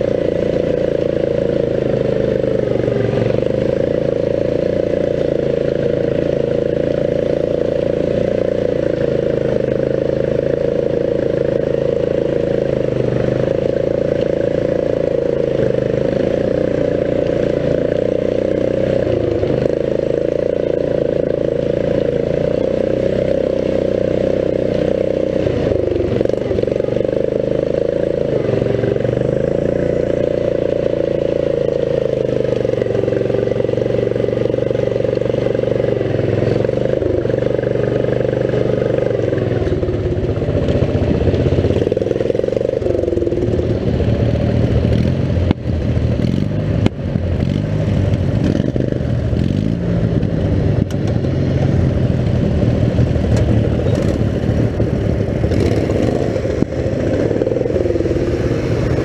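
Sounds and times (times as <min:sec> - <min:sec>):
riding lawn mower engine running: 0:00.0 - 0:59.0.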